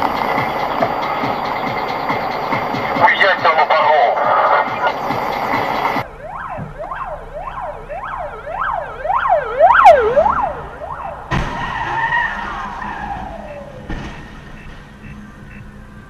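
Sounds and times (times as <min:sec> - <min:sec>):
ambulance siren yelping: 0:00.0 - 0:13.9.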